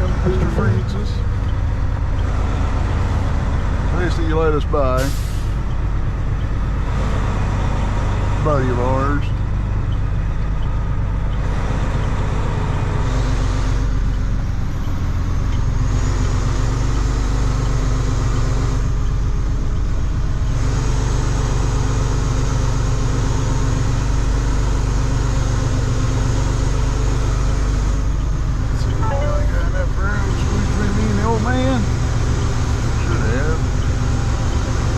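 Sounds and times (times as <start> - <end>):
diesel truck engine running: 0.0 - 34.9
tyre and road noise: 0.0 - 34.9.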